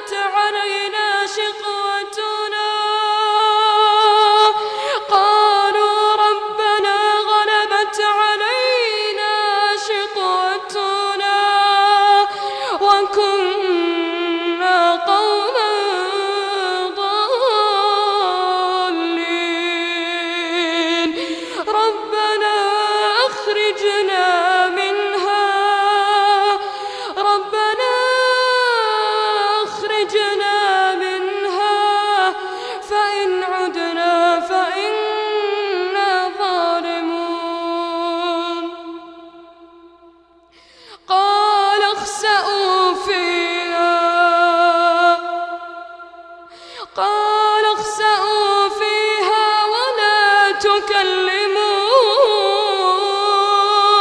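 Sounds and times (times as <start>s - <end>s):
boy reciting melodically: 0.0s - 38.9s, 41.0s - 45.8s, 46.8s - 54.0s.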